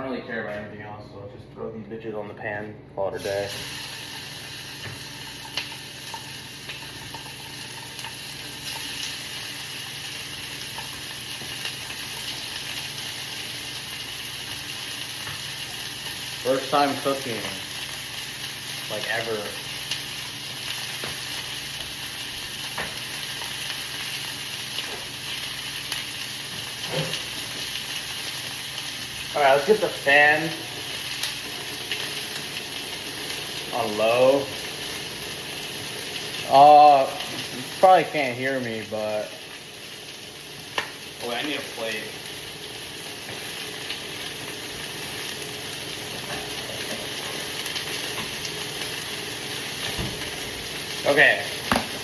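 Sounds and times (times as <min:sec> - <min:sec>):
chicken sizzling in a pan: 0:03.2 - 0:52.0.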